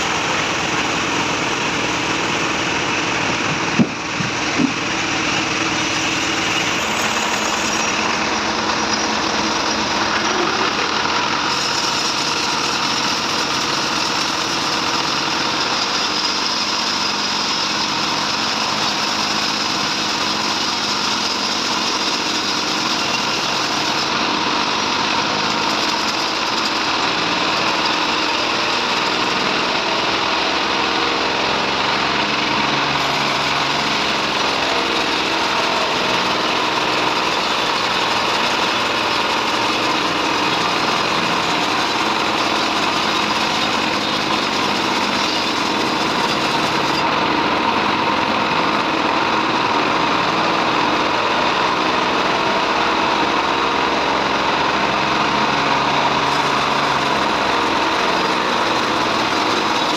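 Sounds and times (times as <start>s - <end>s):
bandsaw sawing wood: 0.0s - 59.9s.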